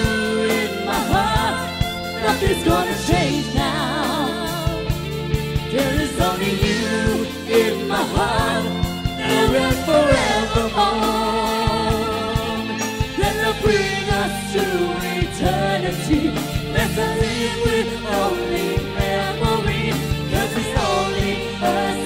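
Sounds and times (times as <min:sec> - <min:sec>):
man and woman singing: 0:00.0 - 0:05.0, 0:05.7 - 0:22.0
live pop band playing: 0:00.0 - 0:22.0.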